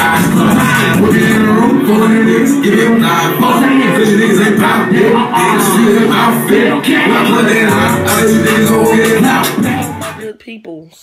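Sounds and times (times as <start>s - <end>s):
rapping over a beat: 0.0s - 11.0s.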